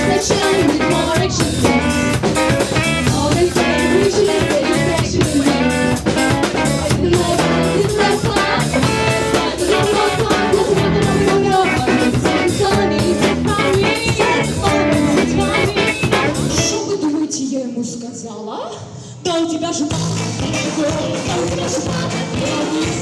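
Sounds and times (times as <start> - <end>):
drum-kit beat: 0.0 - 16.8, 19.9 - 23.0
person singing: 0.0 - 17.0, 19.2 - 23.0
guitar: 0.0 - 17.4, 19.7 - 23.0.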